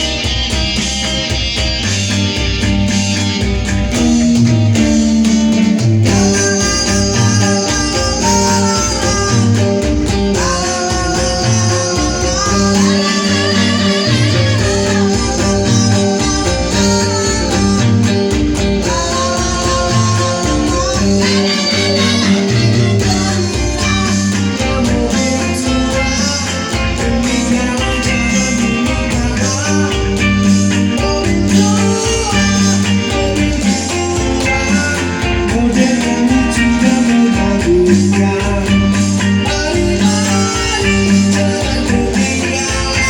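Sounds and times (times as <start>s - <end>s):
electric guitar: 0.0s - 43.0s
pop-rock band playing live: 0.0s - 43.0s.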